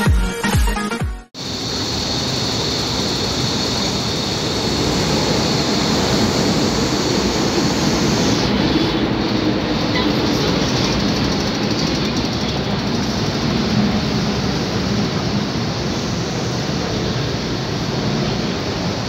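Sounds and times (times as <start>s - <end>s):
metro train rushing: 1.4s - 19.0s.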